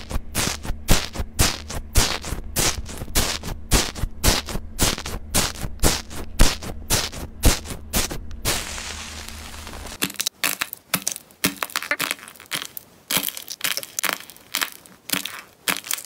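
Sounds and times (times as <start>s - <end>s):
foam slime crackling and popping: 0.0s - 16.0s.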